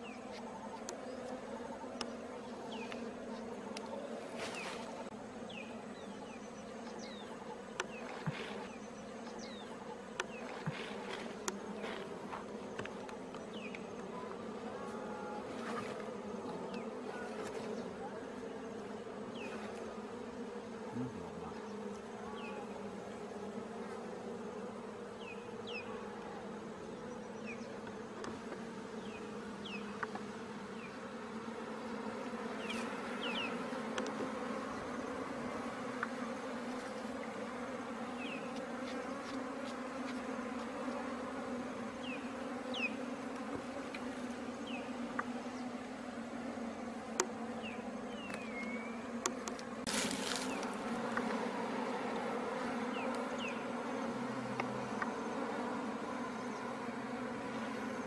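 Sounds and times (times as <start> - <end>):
bees buzzing: 0.0 - 58.0.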